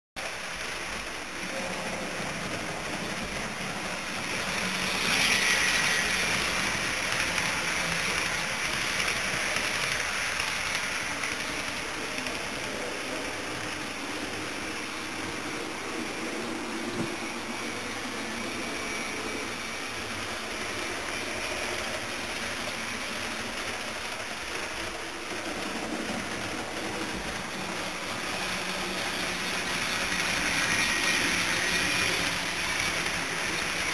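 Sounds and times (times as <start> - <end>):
model train rolling on rails: 0.2 - 33.9.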